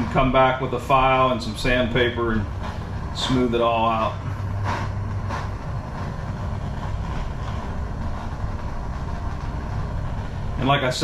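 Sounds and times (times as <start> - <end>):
heat source rushing rumble: 0.0 - 11.0.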